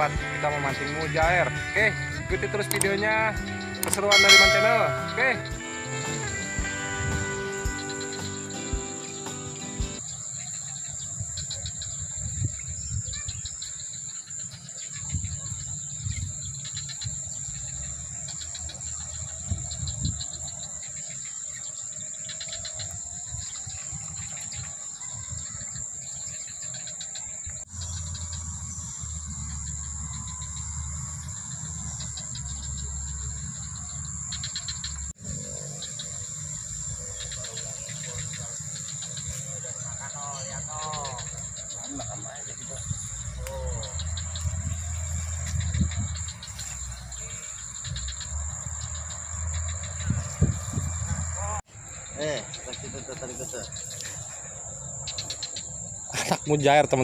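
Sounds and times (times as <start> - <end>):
insects droning: 0.0 - 57.0
rapid pulsing insect chirps: 0.0 - 57.0.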